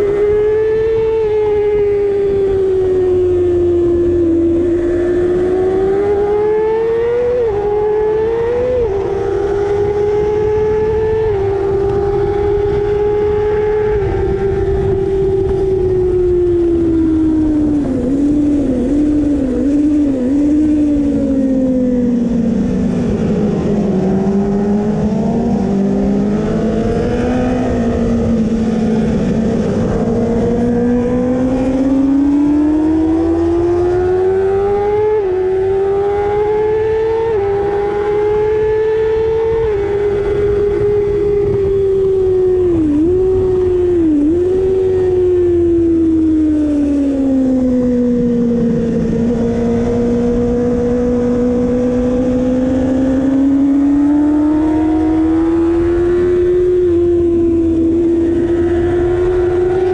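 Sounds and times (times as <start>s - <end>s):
racing motorcycle engine revving: 0.0s - 59.9s
rushing wind noise: 0.0s - 59.9s.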